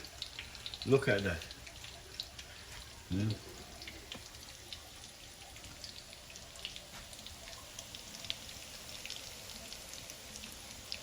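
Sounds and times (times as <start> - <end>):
fritters sizzling in hot oil: 0.0 - 11.0
oil crackling and popping: 0.0 - 11.0.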